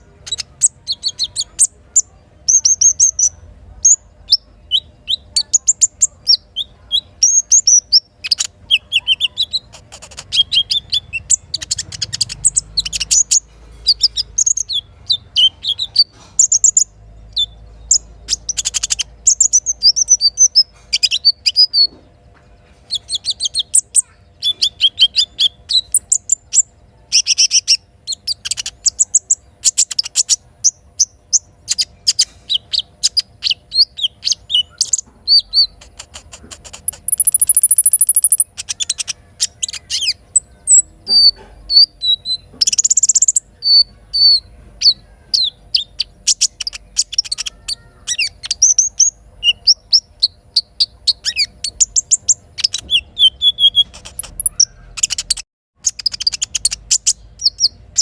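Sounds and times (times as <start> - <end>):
bird singing rapid high chirps: 0.0 - 22.0, 22.8 - 58.0.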